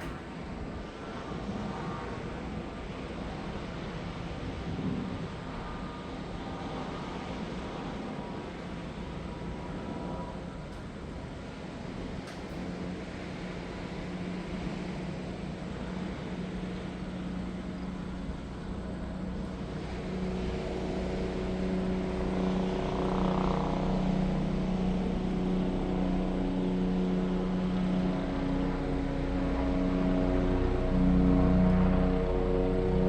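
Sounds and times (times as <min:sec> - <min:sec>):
engine drone: 0:00.0 - 0:33.0
wind: 0:00.0 - 0:33.0.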